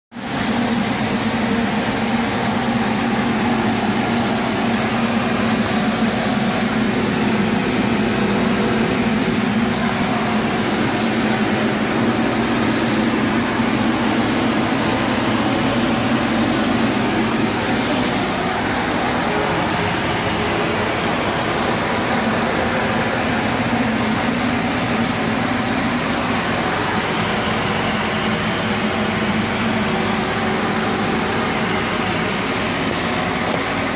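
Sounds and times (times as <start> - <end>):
machine running with air rush: 0.2 - 33.9.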